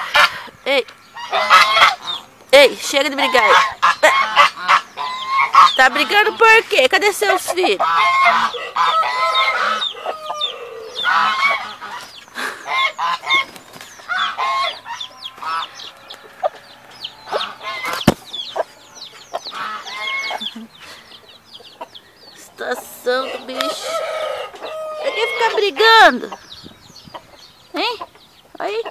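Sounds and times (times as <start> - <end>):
hens squawking and clucking: 0.0 - 28.9.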